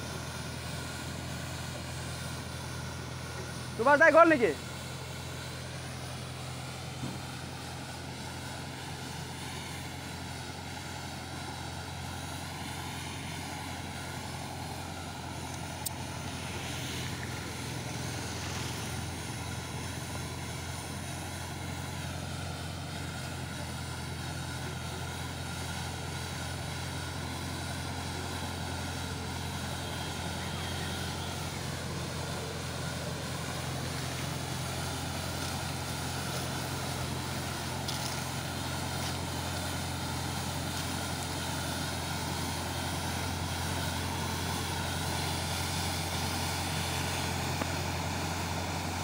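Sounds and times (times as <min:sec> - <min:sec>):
diesel tractor engine droning: 0:00.0 - 0:49.0
road sweeper brush: 0:00.0 - 0:49.0.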